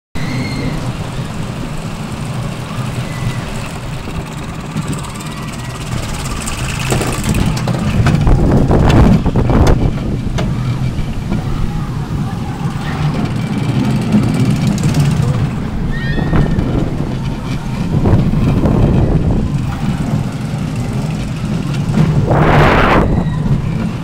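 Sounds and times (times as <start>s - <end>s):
roller coaster wheels rumbling: 0.2s - 24.0s.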